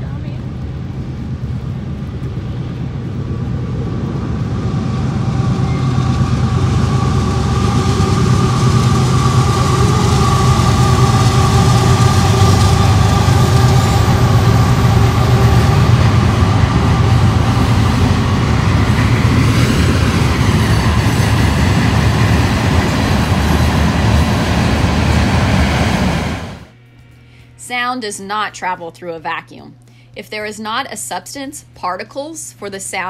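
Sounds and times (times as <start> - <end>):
freight train rumbling: 0.0 - 26.8
steady tone: 0.0 - 26.8.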